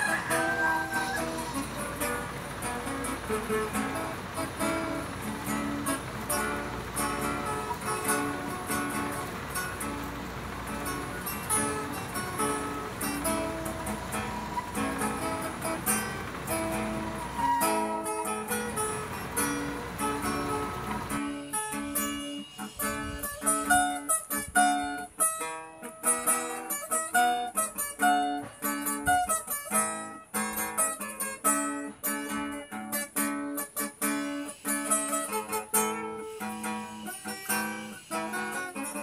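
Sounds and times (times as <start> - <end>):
acoustic guitar picking: 0.0 - 39.0.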